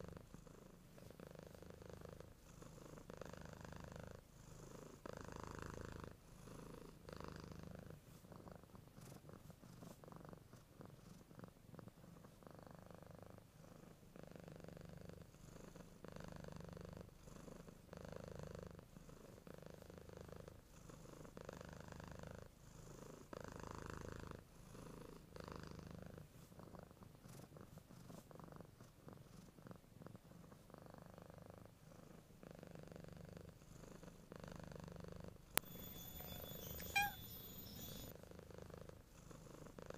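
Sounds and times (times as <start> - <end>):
cat purring faintly: 0.0 - 39.9.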